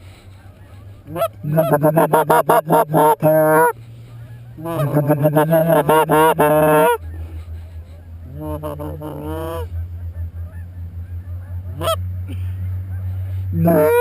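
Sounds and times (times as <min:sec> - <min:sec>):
low steady hum: 0:00.0 - 0:14.0
goose honking: 0:00.4 - 0:07.5, 0:08.3 - 0:14.0.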